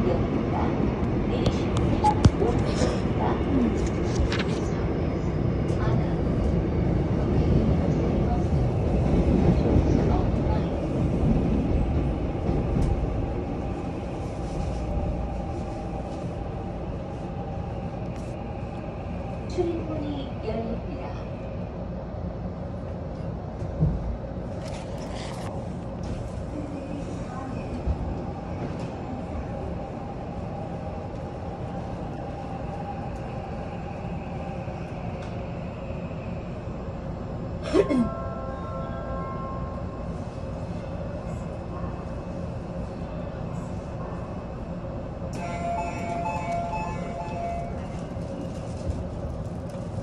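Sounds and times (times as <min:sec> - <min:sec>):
subway train rumble: 0:00.0 - 0:50.0.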